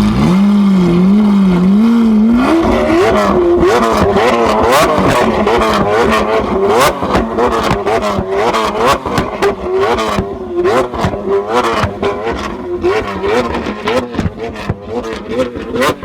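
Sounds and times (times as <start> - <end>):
sports car engine revving: 0.0 - 16.0
exhaust pops: 2.2 - 16.0.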